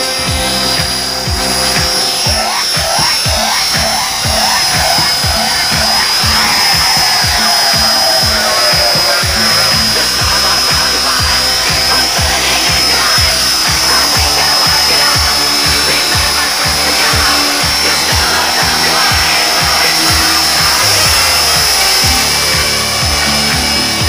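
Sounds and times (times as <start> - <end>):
music with steady beat: 0.0 - 24.0
toy helicopter motor whine: 0.0 - 24.0.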